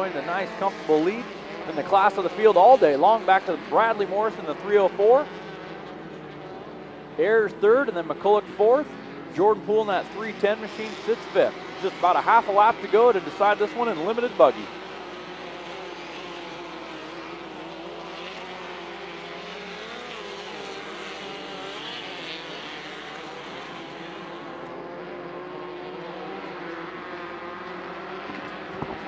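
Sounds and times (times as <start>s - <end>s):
racing buggy engines revving: 0.0s - 29.0s.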